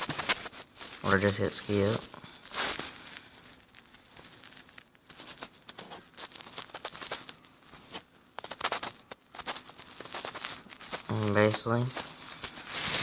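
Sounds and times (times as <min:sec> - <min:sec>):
irregular crackling and rustling: 0:00.0 - 0:13.0.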